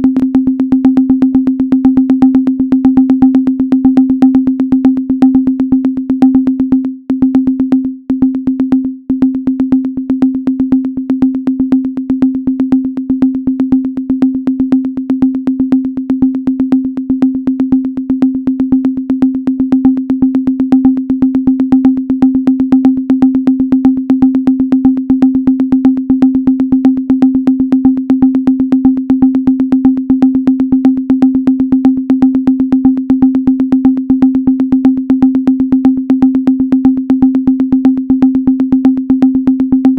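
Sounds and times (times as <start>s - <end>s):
low sine-wave tone: 0.0s - 39.9s.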